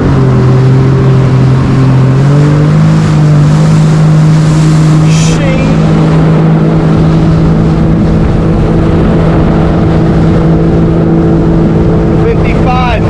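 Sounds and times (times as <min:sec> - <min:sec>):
jet ski engine droning: 0:00.0 - 0:13.0.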